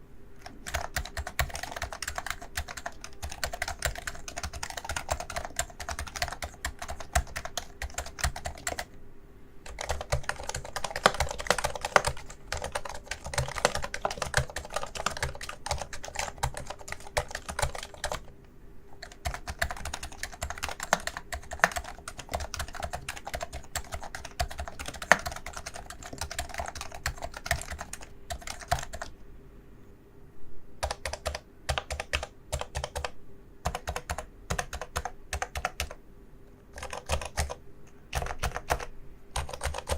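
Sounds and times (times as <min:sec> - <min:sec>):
fast keyboard typing: 0:00.4 - 0:08.9, 0:09.6 - 0:18.3, 0:18.9 - 0:29.1, 0:30.8 - 0:36.0, 0:36.7 - 0:39.9.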